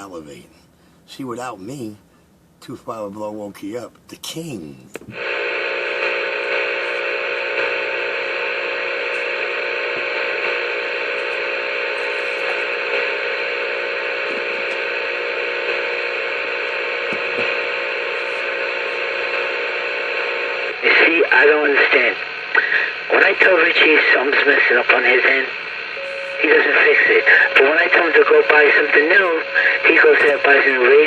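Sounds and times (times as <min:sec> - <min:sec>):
radio static hiss: 0:02.9 - 0:31.0
buzzing drone of steady tones: 0:05.1 - 0:31.0.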